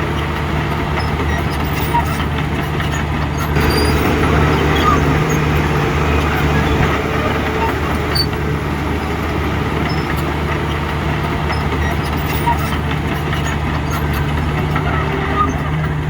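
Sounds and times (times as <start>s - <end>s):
heavy machinery diesel engine: 0.0s - 16.0s.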